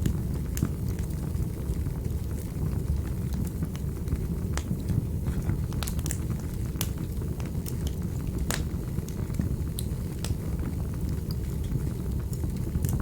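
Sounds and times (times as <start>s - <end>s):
fire crackling and popping: 0.0s - 13.0s
fire flames rumbling: 0.0s - 13.0s.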